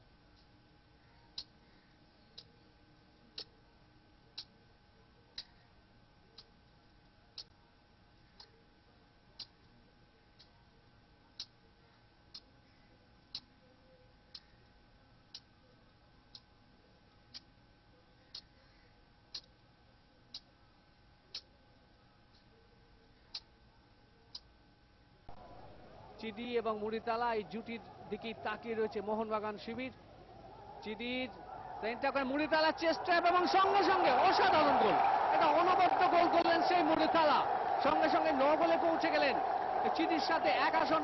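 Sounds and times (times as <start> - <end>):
faint steady whine: 0.0 - 41.0.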